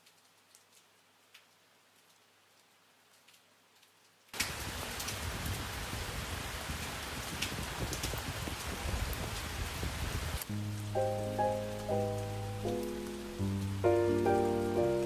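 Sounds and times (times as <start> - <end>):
rain falling on wet pavement: 0.0 - 15.0.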